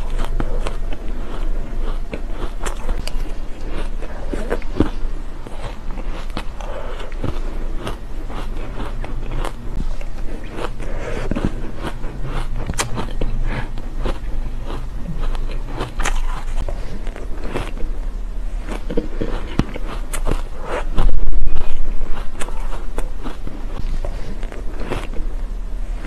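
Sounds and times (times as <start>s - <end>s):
crunching and chewing ice: 0.0s - 26.0s.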